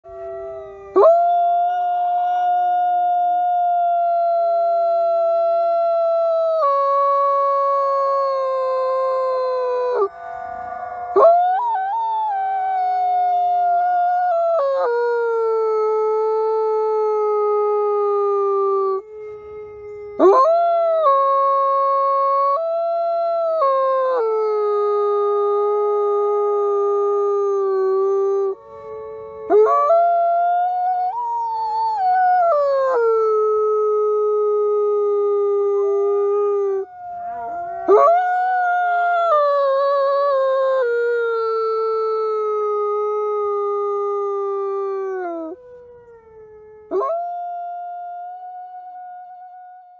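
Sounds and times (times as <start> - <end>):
wolf howling: 0.0 - 49.7
faint wolf howl: 0.0 - 49.9.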